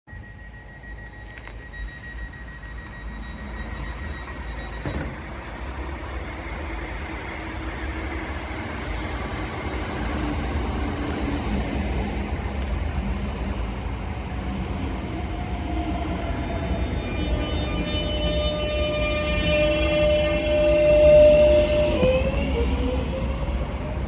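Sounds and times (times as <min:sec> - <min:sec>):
train wheel rumble and motor hum: 0:00.1 - 0:24.0.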